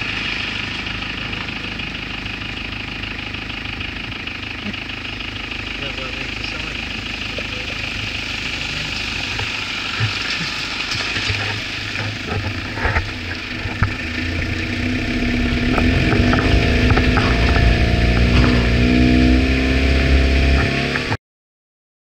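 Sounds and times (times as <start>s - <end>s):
knocks and jolts from rough track: 0.0s - 21.2s
pickup truck engine running: 0.0s - 21.2s.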